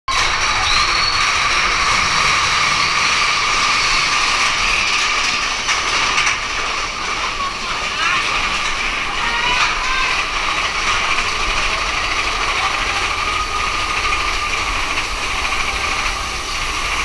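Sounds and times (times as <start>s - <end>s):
roller coaster wheels on track: 0.1s - 17.0s.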